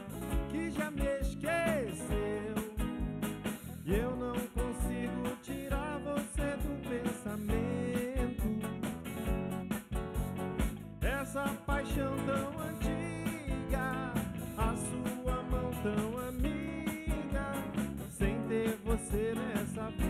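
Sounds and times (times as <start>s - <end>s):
drum kit beat: 0.0s - 20.0s
live band playing: 0.0s - 20.0s.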